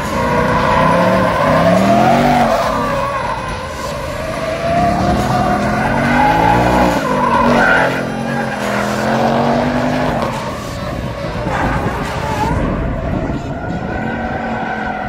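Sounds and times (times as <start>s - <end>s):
car engine revving: 0.0s - 15.0s
tires squealing on pavement: 0.0s - 15.0s.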